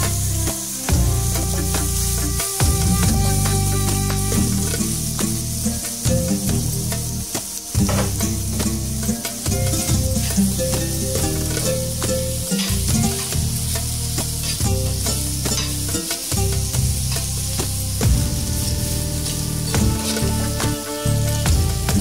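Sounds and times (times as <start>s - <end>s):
background music: 0.0s - 22.0s
meat sizzling on a hot plate: 0.0s - 22.0s.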